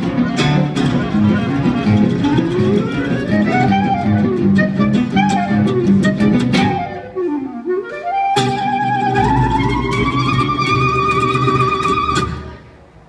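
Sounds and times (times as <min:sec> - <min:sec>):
plucked double bass: 0:00.0 - 0:07.1, 0:08.4 - 0:12.6
acoustic guitars strumming: 0:00.0 - 0:07.4, 0:08.3 - 0:12.6
clarinet melody: 0:00.0 - 0:12.6.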